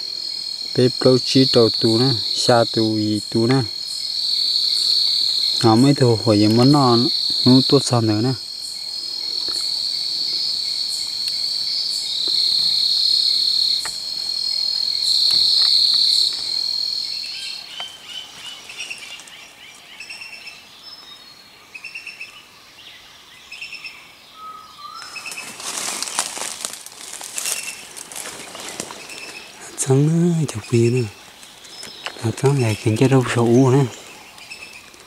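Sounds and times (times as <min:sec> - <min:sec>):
birds chirping: 0:00.0 - 0:35.0
night insects buzzing: 0:00.0 - 0:35.0
rustle: 0:01.9 - 0:35.0.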